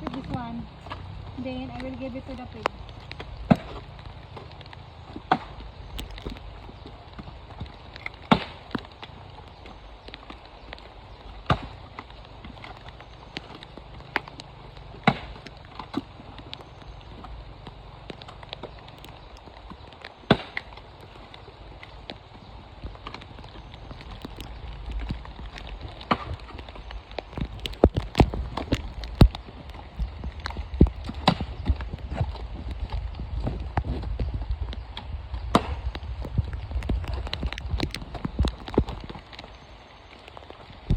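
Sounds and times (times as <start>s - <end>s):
low steady rumble: 0.0s - 40.1s
coconut shells cracking: 0.0s - 40.9s.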